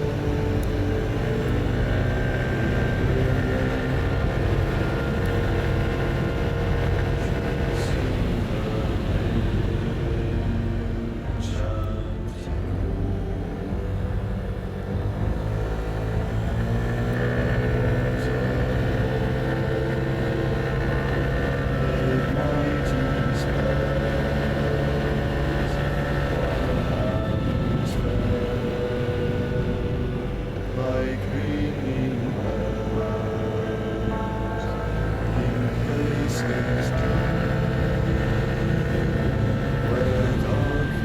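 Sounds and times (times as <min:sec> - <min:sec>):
scooter engine running: 0:00.0 - 0:41.0.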